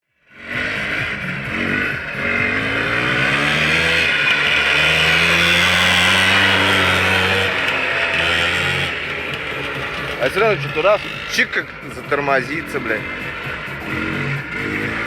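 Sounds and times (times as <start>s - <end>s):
two-stroke snowmobile engine running: 0.0s - 15.0s.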